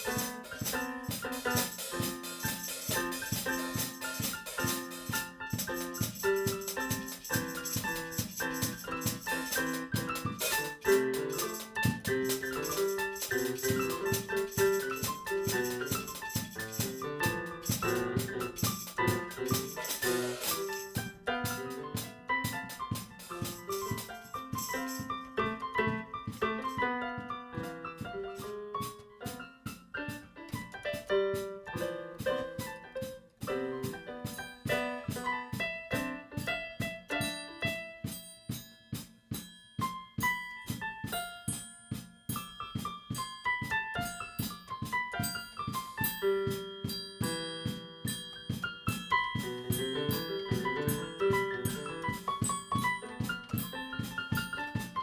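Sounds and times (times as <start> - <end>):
piano music with percussion: 0.0 - 55.0.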